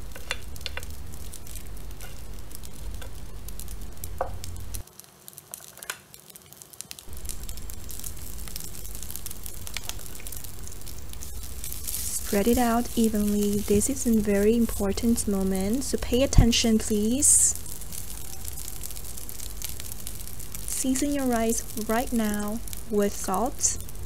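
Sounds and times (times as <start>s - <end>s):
low steady hum: 0.0s - 4.8s, 7.1s - 24.0s
rice sizzling in oil: 0.0s - 24.0s.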